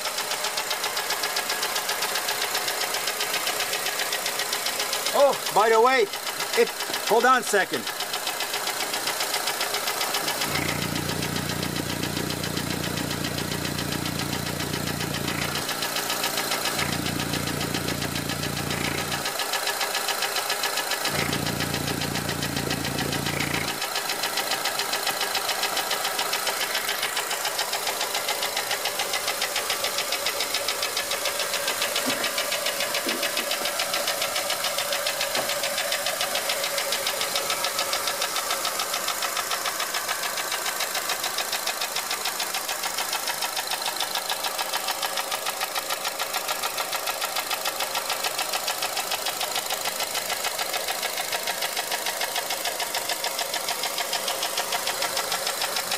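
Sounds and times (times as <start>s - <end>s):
car engine idling with ticking knock: 0.0s - 55.9s.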